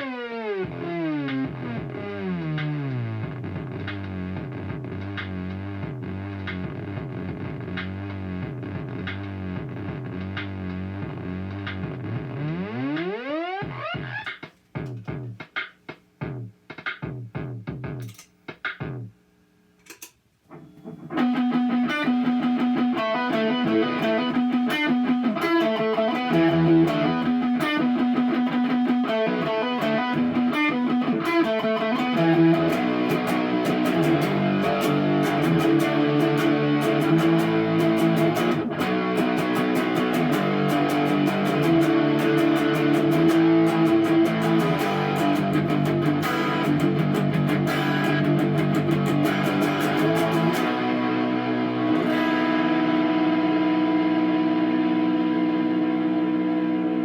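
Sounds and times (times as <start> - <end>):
distorted electric guitar riff: 0.0 - 15.6, 16.2 - 19.1, 19.8 - 57.0.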